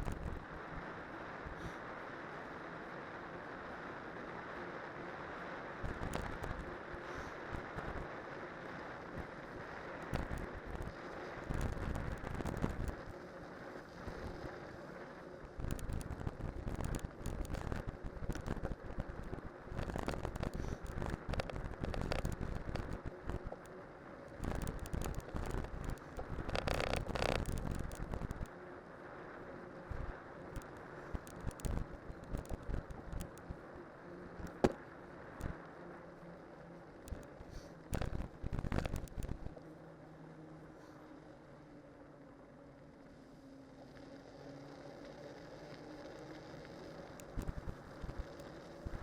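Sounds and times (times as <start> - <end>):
bike tyres rolling on road: 0.0 - 49.0.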